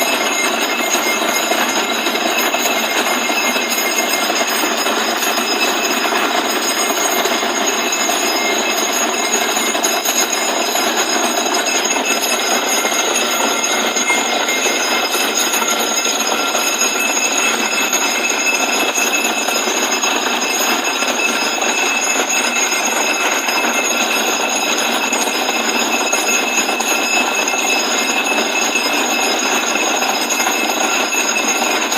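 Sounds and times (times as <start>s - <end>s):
drilling rig roaring: 0.0s - 31.9s.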